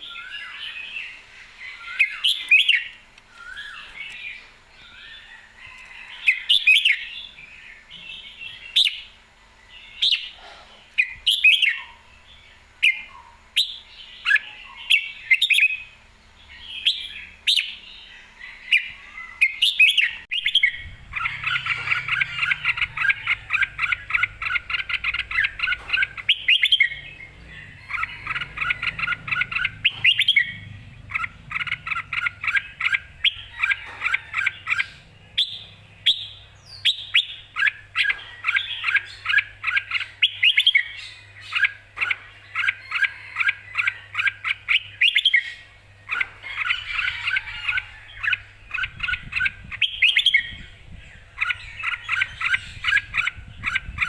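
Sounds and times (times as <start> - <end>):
bird singing repeated notes: 0.0 - 9.2, 11.0 - 54.0.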